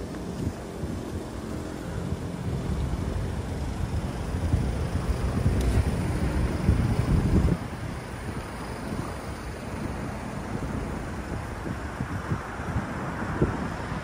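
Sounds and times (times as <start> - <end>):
traffic rumble: 0.0 - 14.0
wind buffeting microphone: 0.0 - 14.0.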